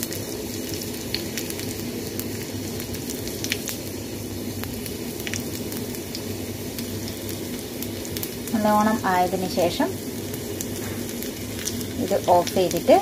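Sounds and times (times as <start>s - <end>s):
oil sizzling with crackles: 0.0s - 13.0s.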